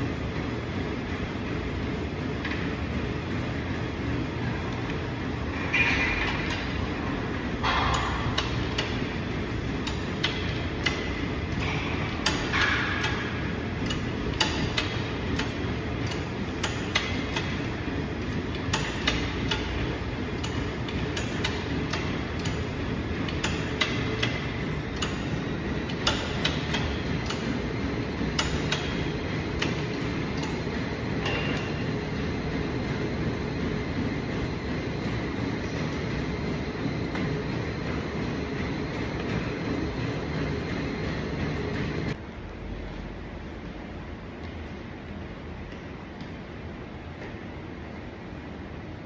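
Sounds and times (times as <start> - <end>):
low gym rumble: 0.0 - 49.0
gym machine clicks and knocks: 1.7 - 42.2.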